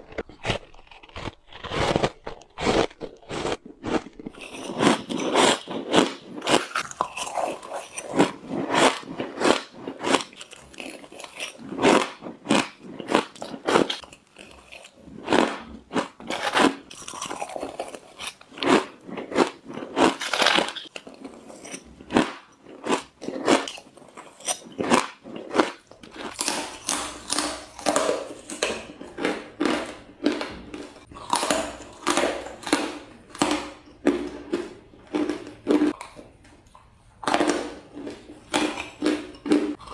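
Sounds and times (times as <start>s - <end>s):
ice crunching when chewed: 0.0s - 39.9s.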